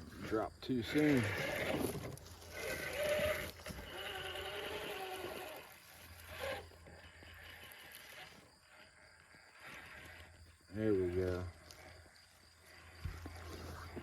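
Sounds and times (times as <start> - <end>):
toy car electric motor whining: 0.0 - 14.0.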